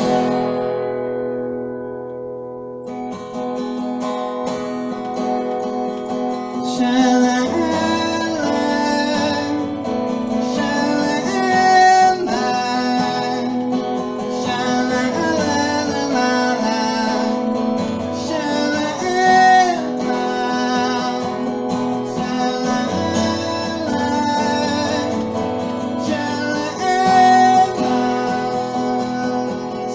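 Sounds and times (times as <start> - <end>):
strummed acoustic guitar: 0.0 - 29.9.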